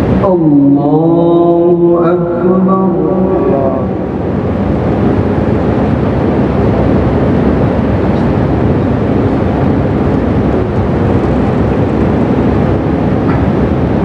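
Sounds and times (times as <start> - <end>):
loud low rumbling: 0.0 - 14.0.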